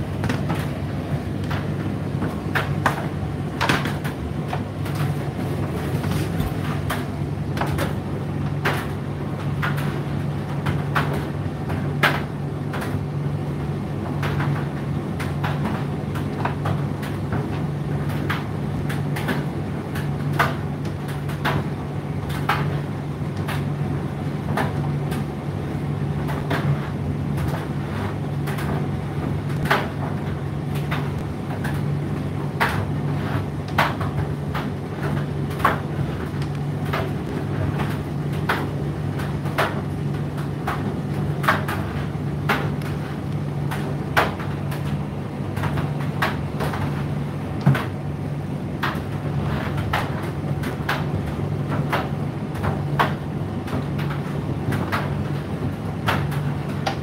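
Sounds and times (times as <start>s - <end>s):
tumble dryer motor hum: 0.0s - 57.0s.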